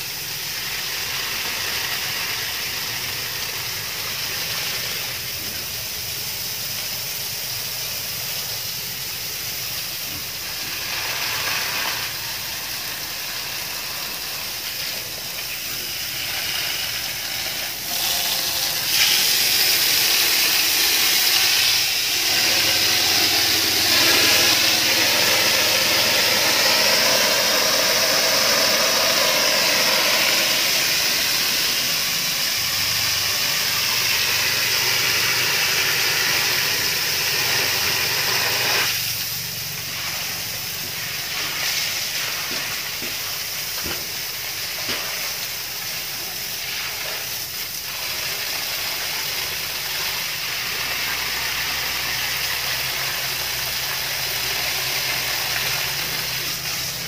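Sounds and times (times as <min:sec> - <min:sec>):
hose spraying water on concrete: 0:00.0 - 0:57.0.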